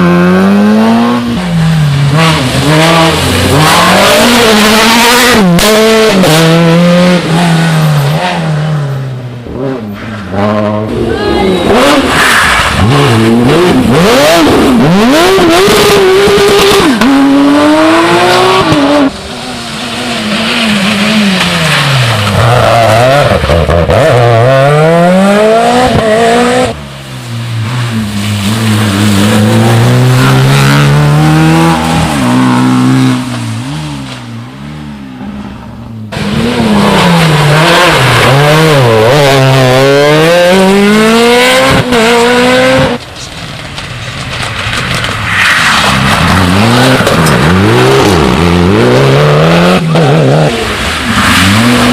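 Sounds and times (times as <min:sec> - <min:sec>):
rally car engines at full throttle: 0:00.0 - 0:51.9.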